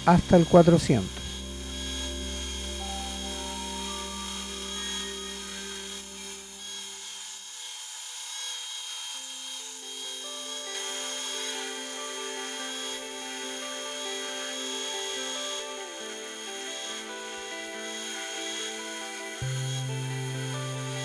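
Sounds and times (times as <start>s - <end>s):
background music of held notes: 0.0s - 6.8s, 9.9s - 21.0s
sandpaper sanding wood on lathe: 0.0s - 13.5s, 14.1s - 21.0s.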